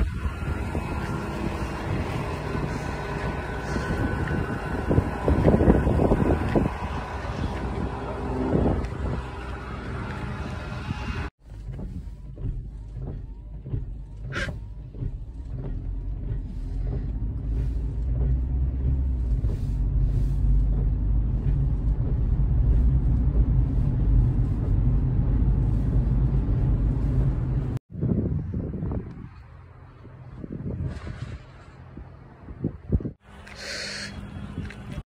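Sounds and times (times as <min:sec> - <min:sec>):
wind buffeting microphone: 0:00.0 - 0:33.3
car road rumble from inside: 0:00.0 - 0:35.0.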